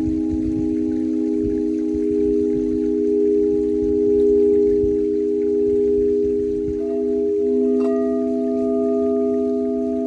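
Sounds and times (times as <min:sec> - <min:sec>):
crystal singing bowls: 0:00.0 - 0:10.0.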